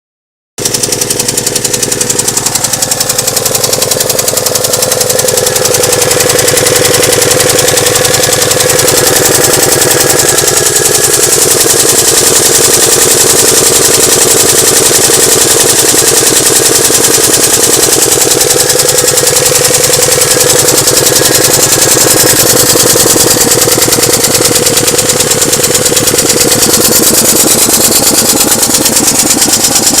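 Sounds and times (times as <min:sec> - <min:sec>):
engine knocking clatter: 0:00.6 - 0:30.0.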